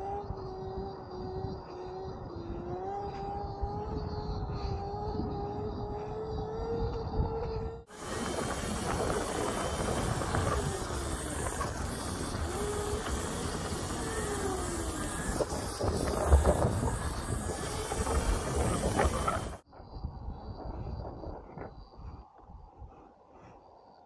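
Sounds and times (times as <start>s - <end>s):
electric motor whine: 0.0s - 19.6s
wind rushing over microphone: 0.0s - 23.2s.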